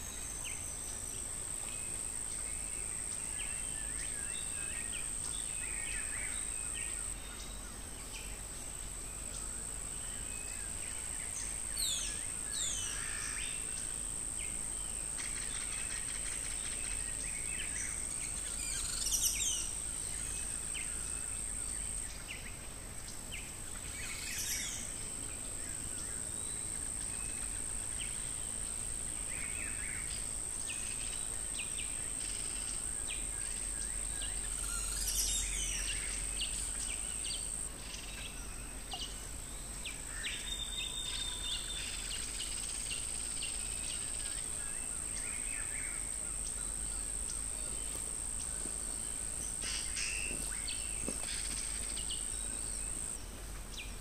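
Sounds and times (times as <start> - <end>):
insect drone: 0.0 - 54.0.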